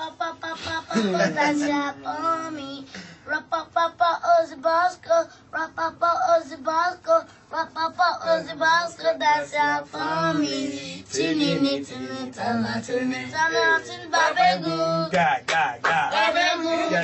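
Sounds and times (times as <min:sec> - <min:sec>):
boy singing into a microphone: 0:00.0 - 0:15.1.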